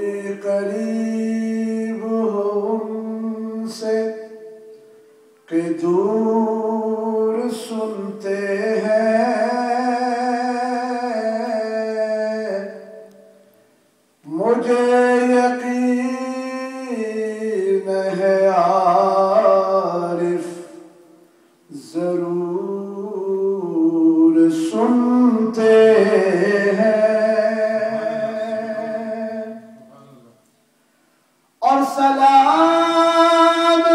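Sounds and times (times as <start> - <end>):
man singing unaccompanied: 0.0 - 4.8, 5.4 - 13.4, 14.2 - 21.1, 21.7 - 30.4, 31.6 - 33.9.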